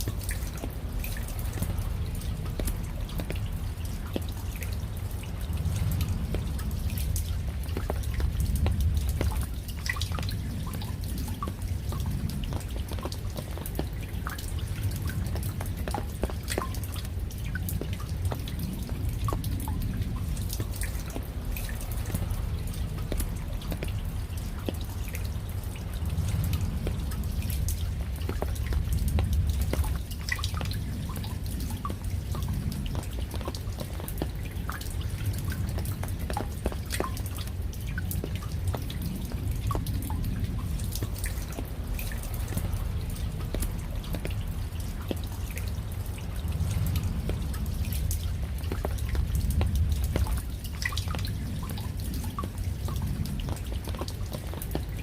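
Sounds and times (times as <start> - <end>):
rain rumbling: 0.0 - 55.0
raindrops plinking and dripping: 0.0 - 55.0.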